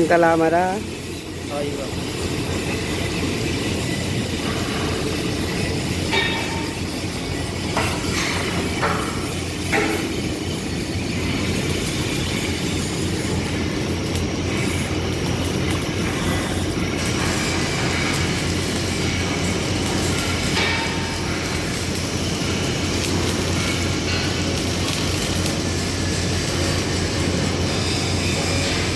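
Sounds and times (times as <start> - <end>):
arc welding crackling: 0.0 - 28.9.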